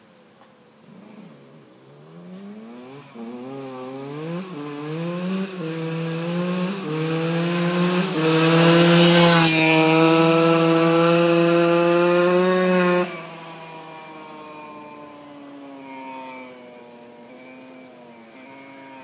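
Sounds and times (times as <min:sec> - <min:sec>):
dirt bike accelerating: 0:00.8 - 0:19.0.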